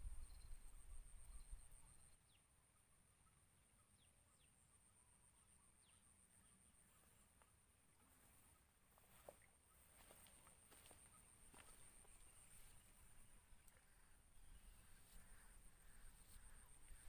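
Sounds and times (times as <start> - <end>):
faint high insect trill: 0.0 - 2.4, 3.2 - 17.0
faint bird chirps: 0.0 - 17.0.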